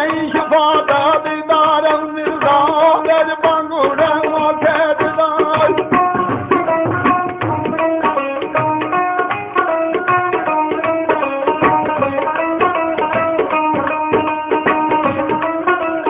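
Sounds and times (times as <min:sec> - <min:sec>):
tabla drumming: 0:00.0 - 0:16.0.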